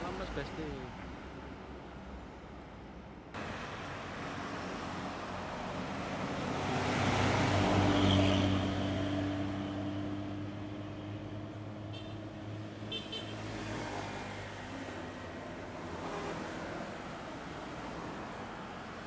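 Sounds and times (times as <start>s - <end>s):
road traffic: 0.0s - 19.0s
bus passing by: 3.4s - 19.0s.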